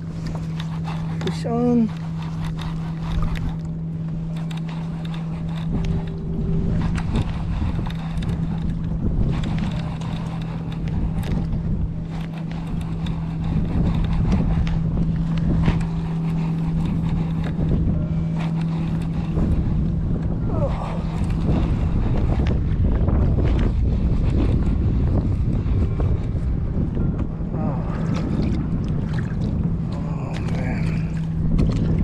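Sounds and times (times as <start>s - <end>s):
boat engine humming: 0.0s - 32.0s
wind buffeting microphone: 0.0s - 32.0s.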